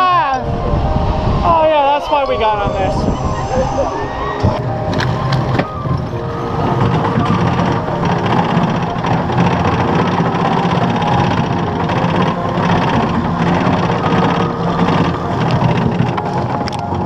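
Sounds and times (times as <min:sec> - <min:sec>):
roller coaster wheels rumbling: 0:00.0 - 0:17.0.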